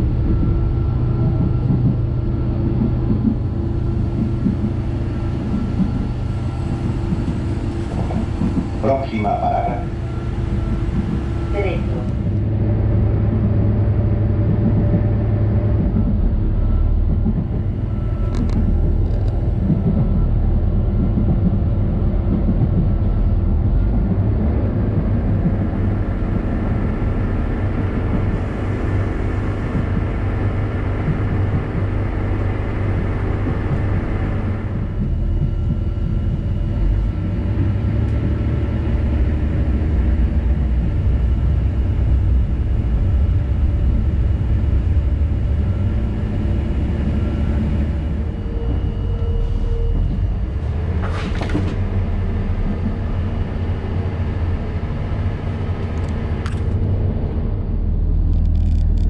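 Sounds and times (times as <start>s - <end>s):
diesel train drone: 0.0s - 59.0s
wheels rumbling on track: 0.0s - 59.0s.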